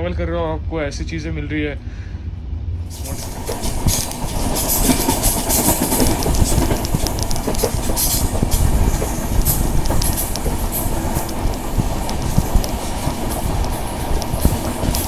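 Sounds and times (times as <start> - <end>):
train wheels and wind rushing: 0.0 - 15.0
wheels clicking over track: 2.9 - 15.0.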